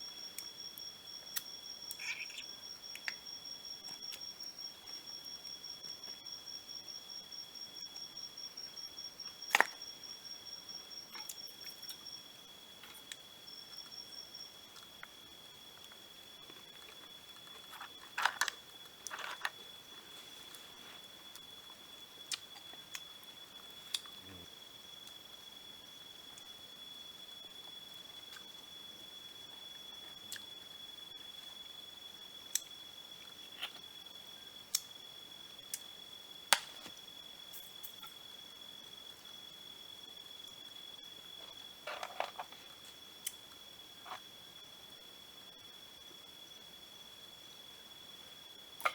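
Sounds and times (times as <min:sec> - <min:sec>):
insects calling: 0:00.0 - 0:48.9.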